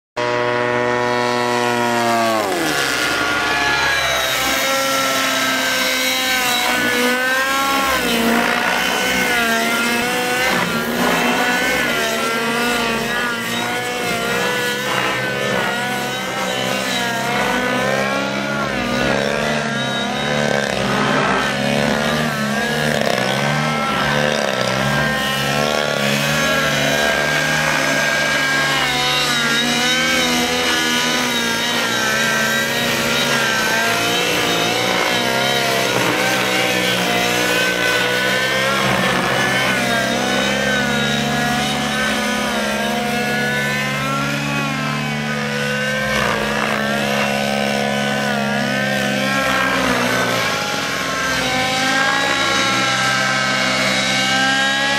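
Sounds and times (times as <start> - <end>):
lower engine drone: 0.2 - 54.9
model plane engine buzzing: 0.2 - 54.9.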